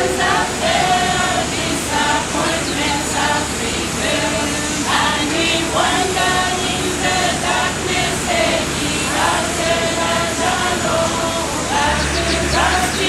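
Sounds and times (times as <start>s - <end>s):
steady background hum: 0.0s - 13.0s
voices singing slow melody: 0.0s - 13.0s.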